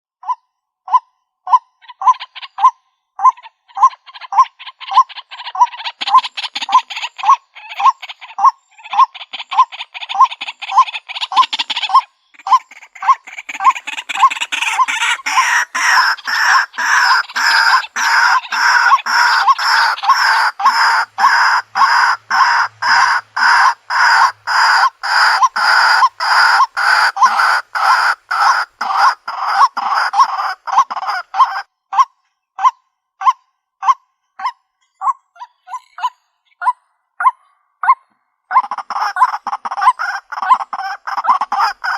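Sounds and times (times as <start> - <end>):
waterhen calling: 0.2 - 41.9.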